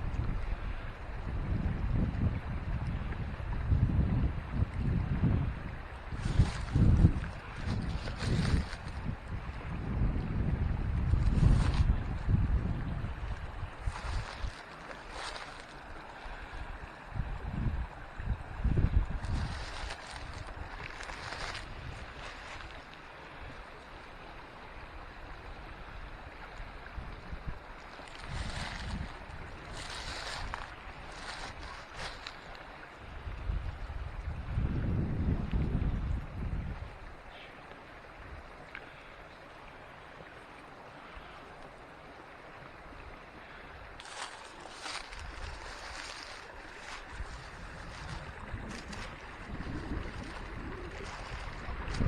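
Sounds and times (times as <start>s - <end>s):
wind on microphone: 0.0s - 23.7s, 24.8s - 37.2s, 43.8s - 52.0s
creek water running: 0.0s - 52.0s.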